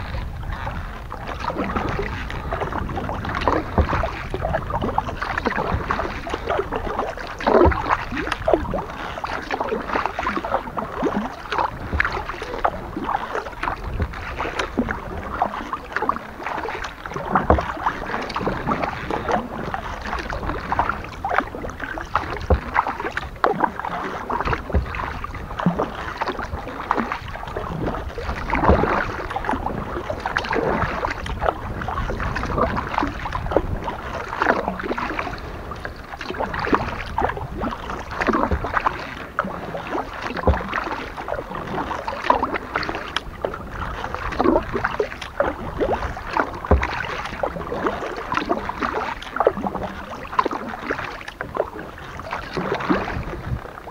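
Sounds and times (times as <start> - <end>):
paddle splashing in water: 0.0 - 53.9.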